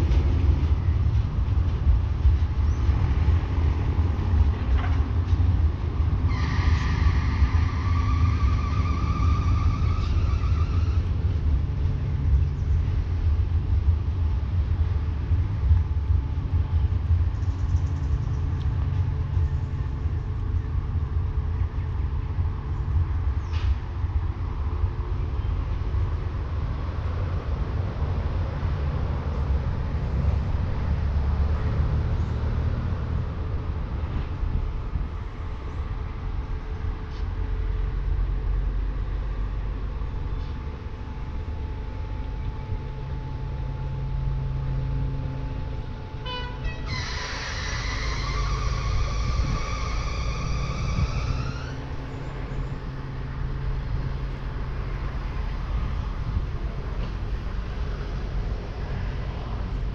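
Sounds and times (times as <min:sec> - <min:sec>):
locomotives idling: 0:00.0 - 0:59.9.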